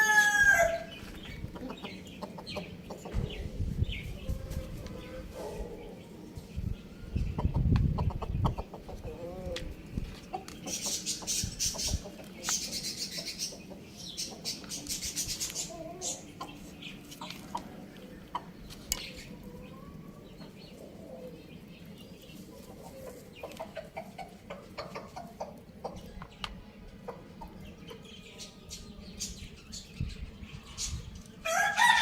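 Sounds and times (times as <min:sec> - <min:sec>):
chickens clucking: 0:00.0 - 0:29.5.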